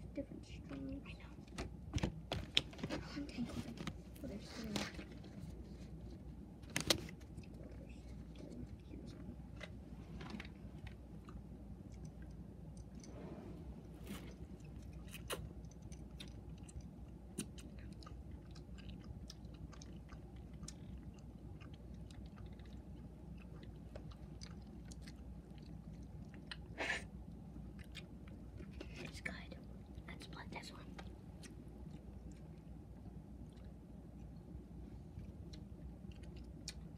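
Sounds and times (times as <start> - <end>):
faint chewing: 0.2 - 36.9.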